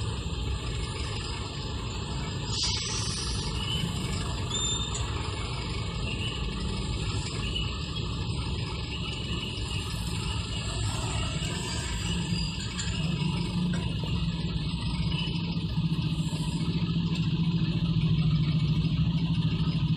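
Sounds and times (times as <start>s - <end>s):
car engine idling: 0.0s - 19.9s
hum of waiting motorcycles: 0.0s - 19.9s.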